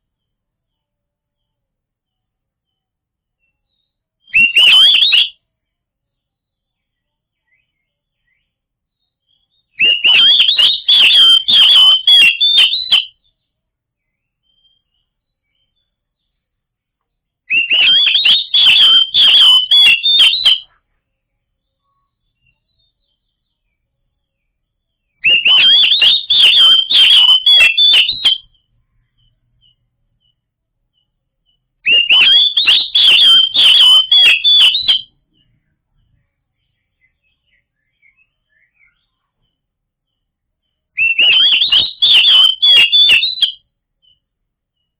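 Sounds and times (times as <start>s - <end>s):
bird singing whistled notes: 3.4s - 5.5s, 6.7s - 16.4s, 17.5s - 20.9s, 21.7s - 44.9s.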